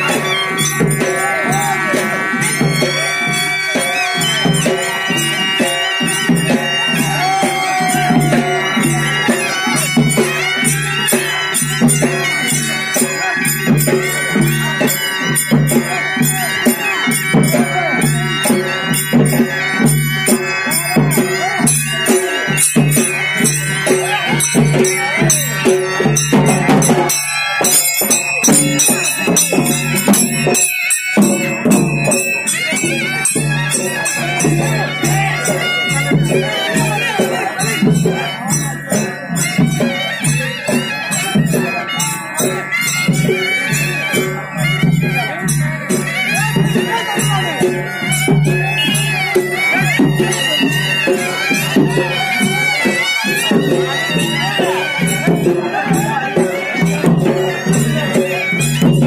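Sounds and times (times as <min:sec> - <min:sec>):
drums: 0:00.0 - 0:59.0
jingling percussion: 0:00.0 - 0:59.0
reed-pipe melody: 0:00.0 - 0:59.0.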